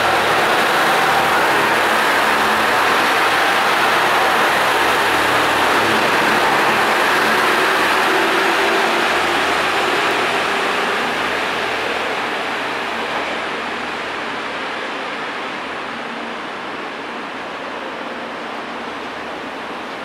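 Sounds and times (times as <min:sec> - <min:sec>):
train pulling away: 0:00.0 - 0:20.0.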